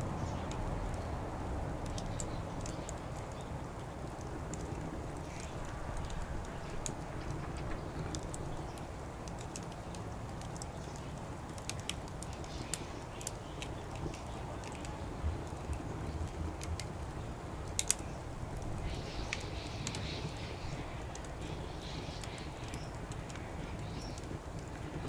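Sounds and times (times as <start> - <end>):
fire snapping and popping: 0.0 - 25.0
wood fire crackling: 0.0 - 25.0.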